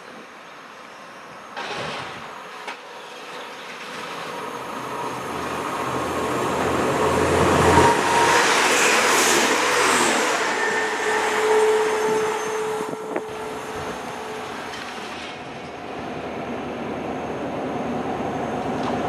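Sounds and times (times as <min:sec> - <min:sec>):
diesel train passing at speed: 0:02.3 - 0:19.0.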